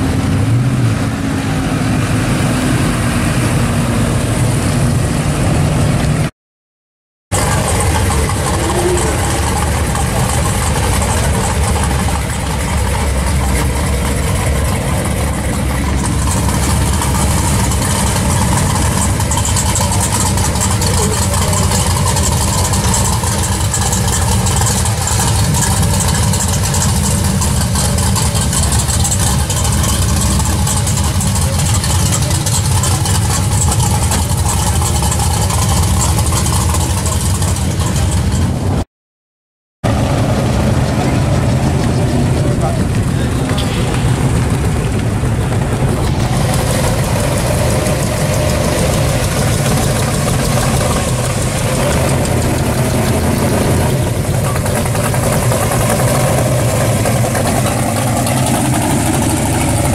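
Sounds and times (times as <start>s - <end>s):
car exhausts idling and moving: 0.0s - 6.3s, 7.3s - 38.8s, 39.8s - 59.9s.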